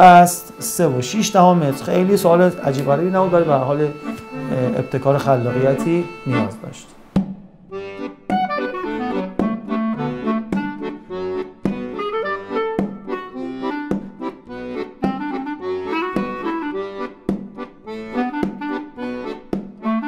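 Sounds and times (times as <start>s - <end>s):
instrumental music with steady beat: 0.0s - 20.0s.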